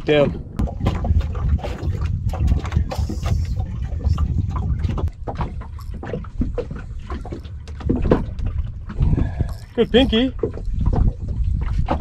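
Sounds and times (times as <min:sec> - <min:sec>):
water lapping at hull: 0:00.0 - 0:12.0
wind rumbling on microphone: 0:00.0 - 0:12.0.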